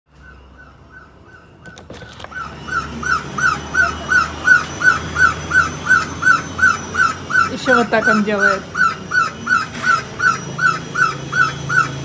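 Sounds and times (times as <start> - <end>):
pet bird calling: 0.1 - 12.0.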